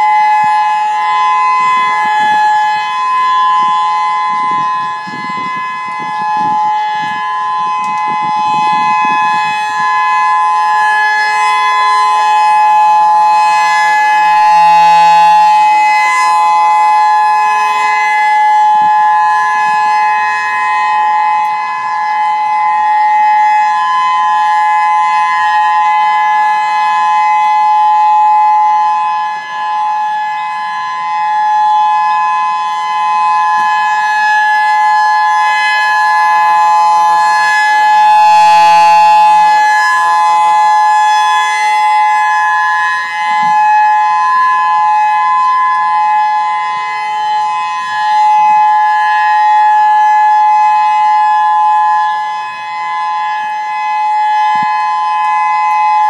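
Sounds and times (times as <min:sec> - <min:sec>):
civil defense siren steady tone: 0:00.0 - 0:56.0.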